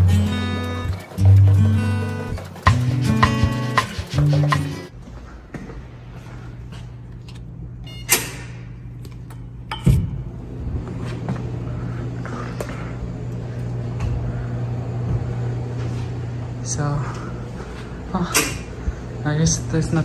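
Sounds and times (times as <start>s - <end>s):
refrigerator hum: 0.0s - 20.0s.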